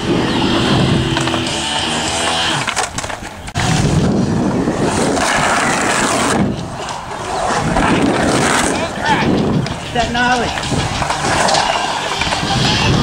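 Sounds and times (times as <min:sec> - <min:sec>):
skateboard wheels rolling on concrete: 0:00.0 - 0:13.0
skateboard clacks: 0:00.1 - 0:03.7, 0:04.8 - 0:13.0.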